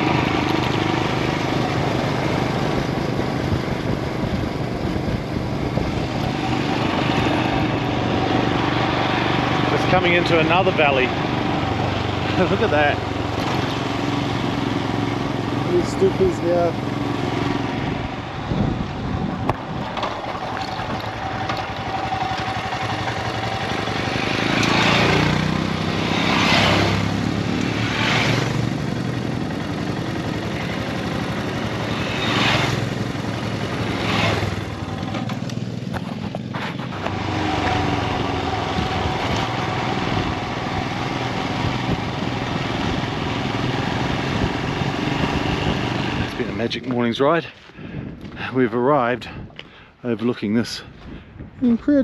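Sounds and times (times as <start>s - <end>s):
motorcycle engine running: 0.0s - 48.5s
road noise: 0.0s - 52.0s
rushing wind: 0.0s - 52.0s.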